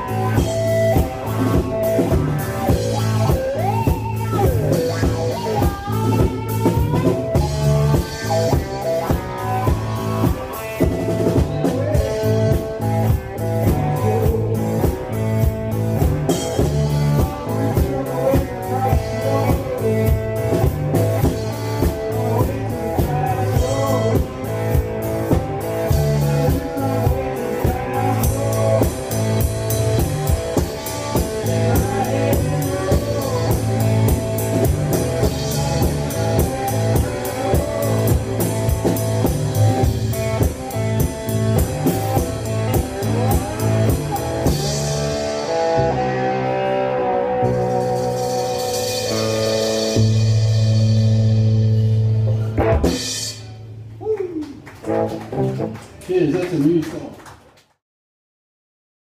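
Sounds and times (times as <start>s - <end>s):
drum kit beat: 0.0s - 46.7s, 47.3s - 57.1s
electric cigar box guitar: 0.0s - 56.0s
second electric guitar: 0.0s - 57.4s.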